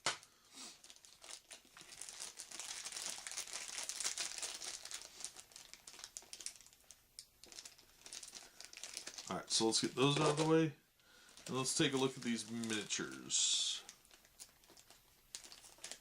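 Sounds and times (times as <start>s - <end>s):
plastic bag crinkling: 0.7s - 16.0s.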